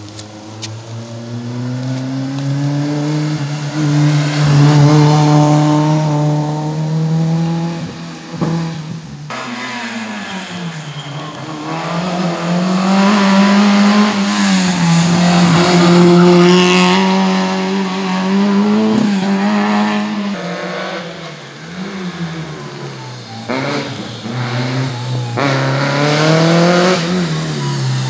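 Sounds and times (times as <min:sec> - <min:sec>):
car engine driven hard: 0:00.0 - 0:28.0.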